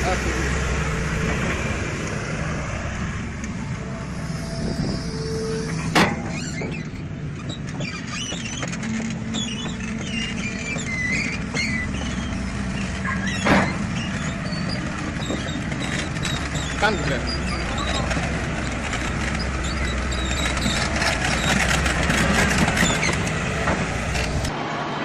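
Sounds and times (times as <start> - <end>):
heavy machine engine running: 0.0 - 25.0.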